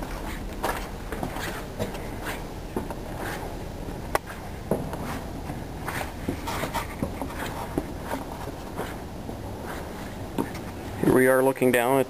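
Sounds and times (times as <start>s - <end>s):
footsteps on steel grating: 0.0s - 11.2s
steady low rumble: 0.0s - 11.7s.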